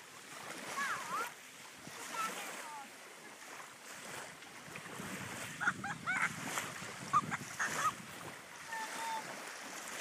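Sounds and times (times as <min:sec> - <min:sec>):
waves washing on shore: 0:00.0 - 0:10.0
wind: 0:00.0 - 0:10.0.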